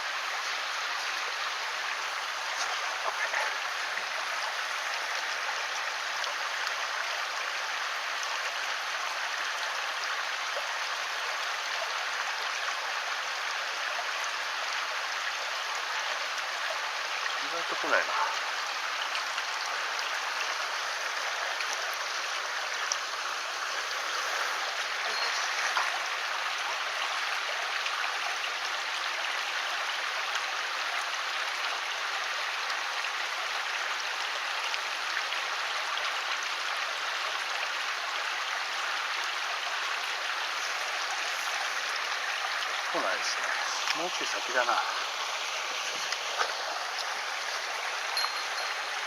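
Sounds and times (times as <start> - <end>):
stream water rushing: 0.0 - 49.0.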